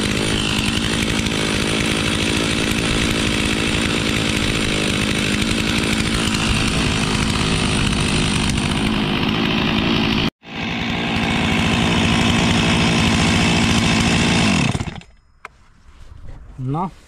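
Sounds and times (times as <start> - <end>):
chainsaw running: 0.0 - 15.2.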